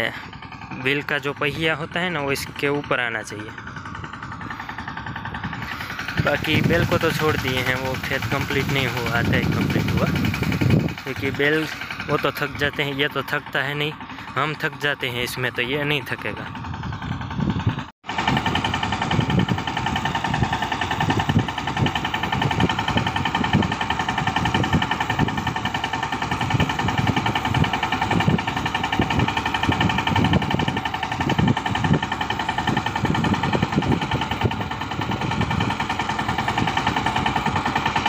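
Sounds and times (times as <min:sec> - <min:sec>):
diesel tractor engine under load: 0:00.0 - 0:38.0.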